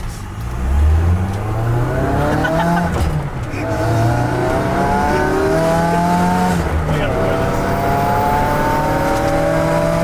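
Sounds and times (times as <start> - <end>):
car engine accelerating hard: 0.3 - 10.0.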